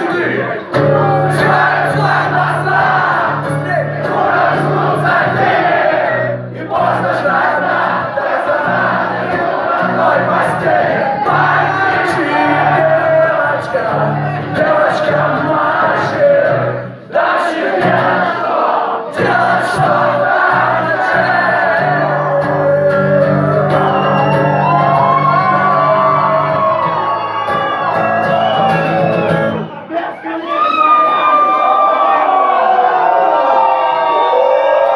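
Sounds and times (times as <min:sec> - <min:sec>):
live band with singing: 0:00.0 - 0:31.2
crowd shouting and cheering: 0:00.0 - 0:34.9.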